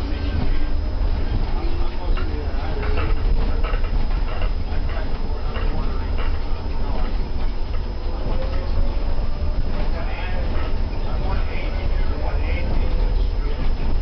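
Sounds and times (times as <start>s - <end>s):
faint whine: 0.0s - 14.0s
rattling body and fittings: 0.0s - 14.0s
trolleybus interior rumble: 0.0s - 14.0s.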